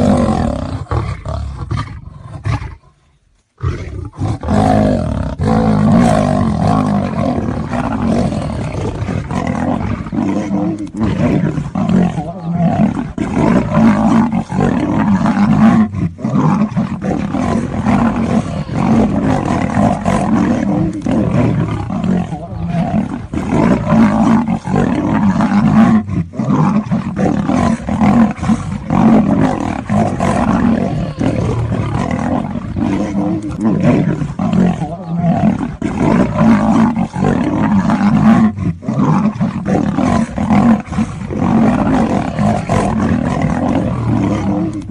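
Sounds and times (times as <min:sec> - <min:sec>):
big cats roaring: 0:00.0 - 0:03.0, 0:03.6 - 0:44.9.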